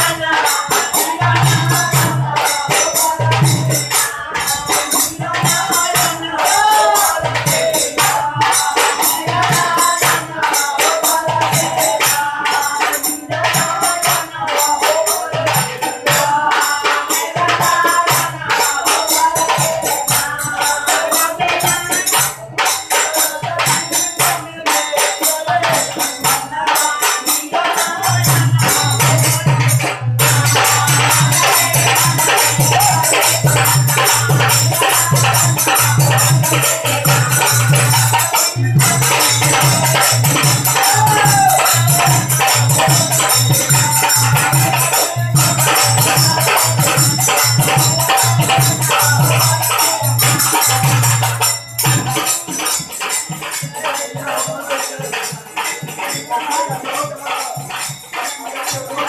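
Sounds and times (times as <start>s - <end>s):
drum beat: 0.0s - 59.0s
jingling hand percussion: 0.0s - 59.0s
person singing: 0.0s - 59.0s.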